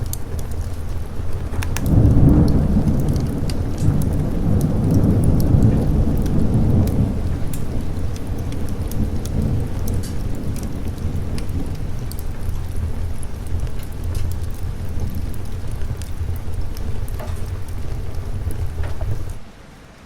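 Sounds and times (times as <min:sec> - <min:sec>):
thunder rumbling: 0:00.0 - 0:19.5
steady rain: 0:00.0 - 0:20.0.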